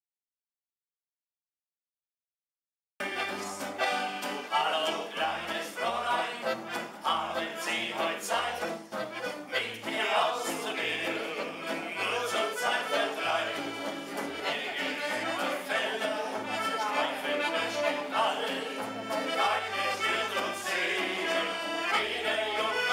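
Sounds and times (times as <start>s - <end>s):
accordion folk dance music: 3.0s - 22.9s.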